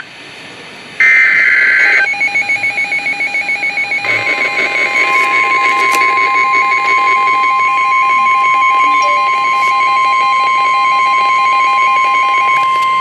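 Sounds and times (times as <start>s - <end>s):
alarm beeping in rapid pulses: 1.0s - 13.0s
loud steady alarm tone: 1.0s - 13.0s.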